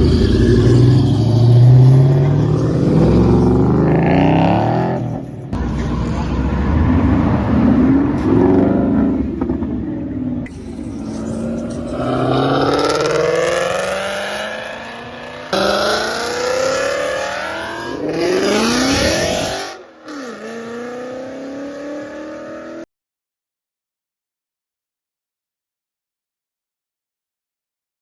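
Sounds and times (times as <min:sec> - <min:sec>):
car engines accelerating hard: 0:00.0 - 0:22.9.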